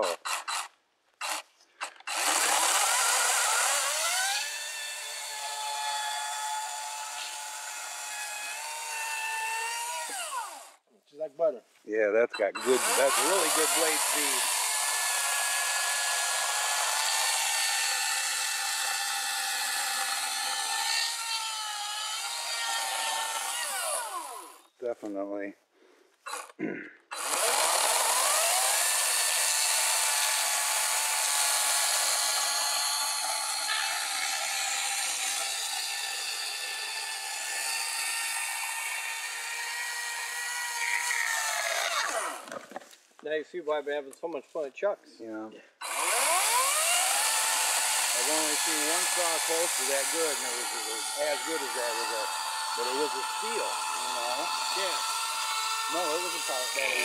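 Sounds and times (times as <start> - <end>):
electric chainsaw cutting log: 0.0 - 10.8, 12.6 - 24.7, 26.3 - 43.0, 45.8 - 57.0.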